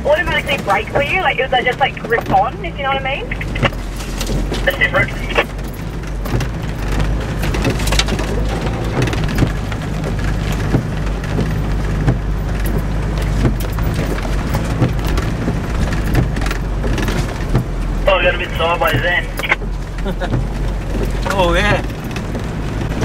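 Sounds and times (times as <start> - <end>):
low engine hum: 0.0 - 23.0
rain ticking on car roof: 0.0 - 23.0.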